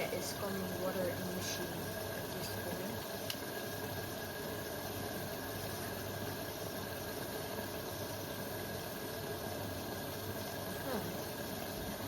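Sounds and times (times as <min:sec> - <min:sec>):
water rushing into washing machine: 0:00.0 - 0:12.0.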